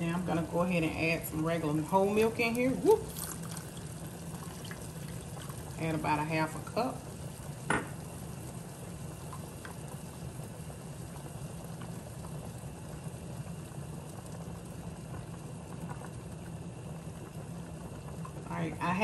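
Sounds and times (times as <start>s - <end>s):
low steady hum: 0.0s - 19.0s
sauce bubbling in a pan: 0.1s - 19.0s.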